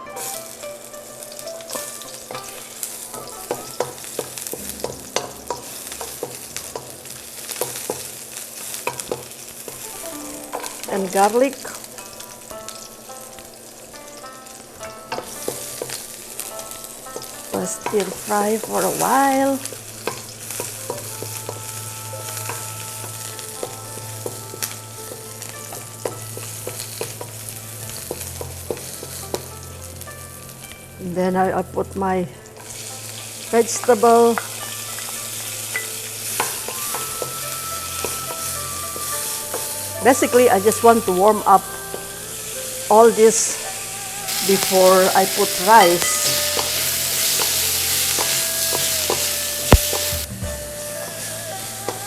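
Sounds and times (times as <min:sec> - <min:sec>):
onions sizzling in hot oil: 0:00.0 - 0:52.0.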